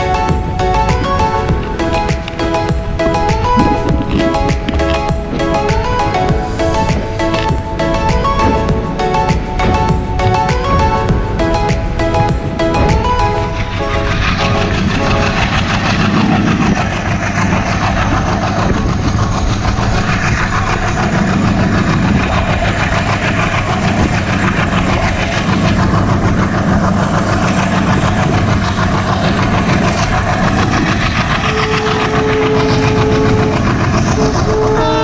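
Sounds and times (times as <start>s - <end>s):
train rumble: 0.0s - 35.0s
wheels clicking over rail joints: 0.0s - 35.0s.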